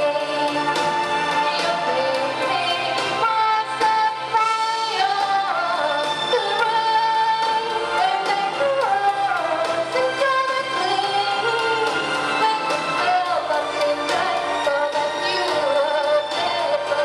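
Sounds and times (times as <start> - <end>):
backing track with beat: 0.0 - 17.0
woman singing pop ballad: 0.0 - 17.0.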